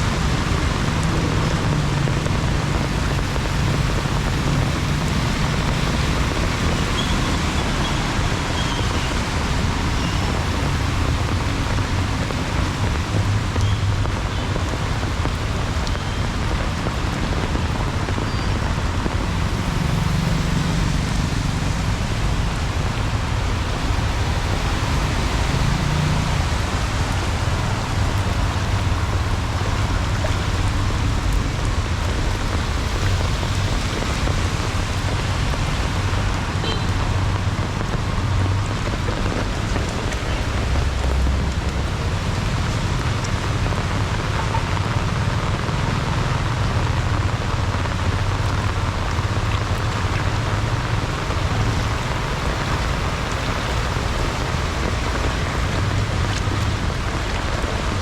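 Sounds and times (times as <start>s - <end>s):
heavy rain falling: 0.0s - 58.0s
passing traffic rumble: 0.0s - 58.0s.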